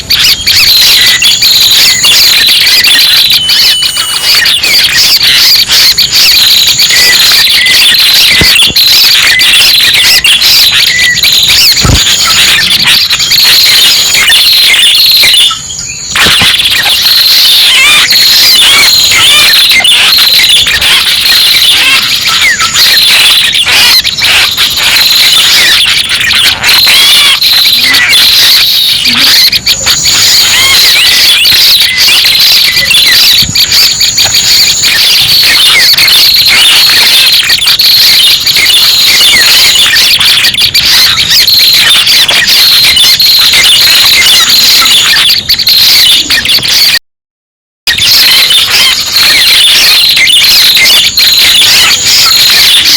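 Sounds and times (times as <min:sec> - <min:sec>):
recorded bird chirps and trills: 0:00.0 - 0:47.0.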